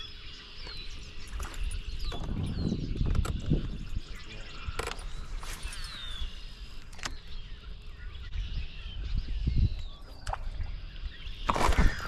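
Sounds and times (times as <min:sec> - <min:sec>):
birds singing whistled phrases: 0:00.0 - 0:12.0.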